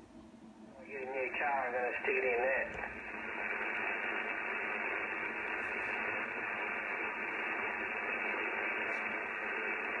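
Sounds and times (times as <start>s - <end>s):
radio static hiss: 0.7s - 10.0s.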